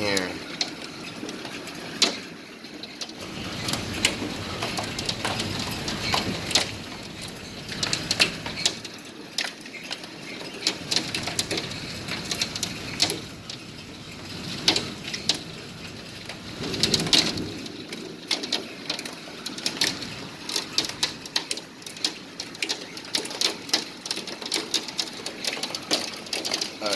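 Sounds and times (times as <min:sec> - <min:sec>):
hailstones striking hard surfaces: 0:00.0 - 0:26.9.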